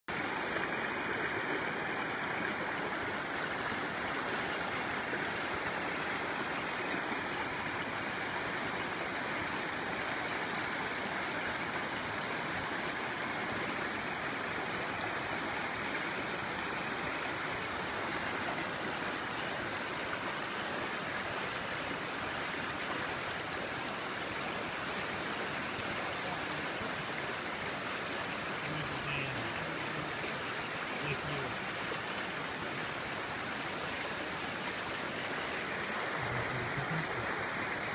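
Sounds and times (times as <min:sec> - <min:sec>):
stream flowing over rocks: 0:00.1 - 0:37.9.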